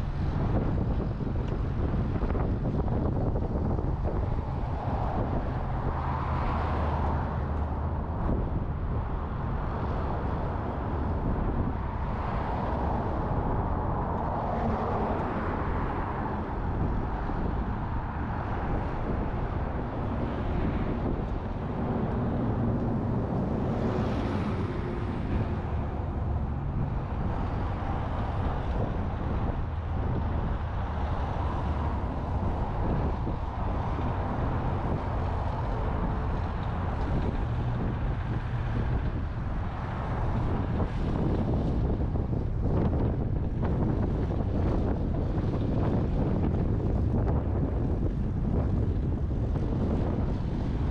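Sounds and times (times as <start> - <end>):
strong gusting wind on microphone: 0.0 - 50.9.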